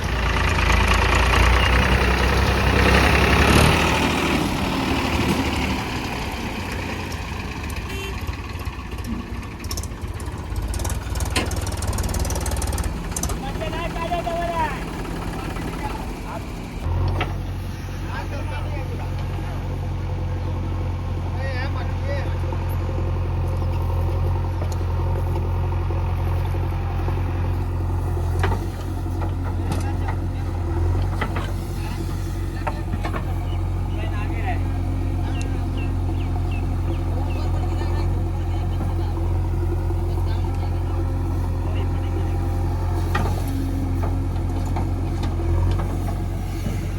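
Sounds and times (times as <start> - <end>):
heavy diesel engine idling: 0.0 - 46.9.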